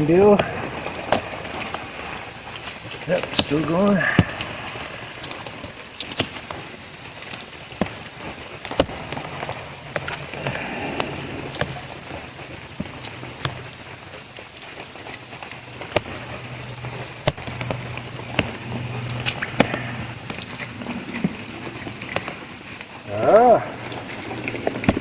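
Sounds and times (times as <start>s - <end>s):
rain ticks and crackles: 0.0s - 25.0s
steady rain hissing: 0.0s - 25.0s.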